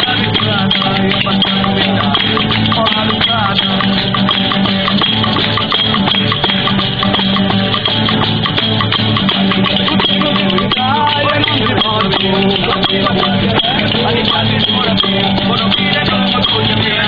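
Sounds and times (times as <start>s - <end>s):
latin dance music with shakers: 0.0s - 17.0s.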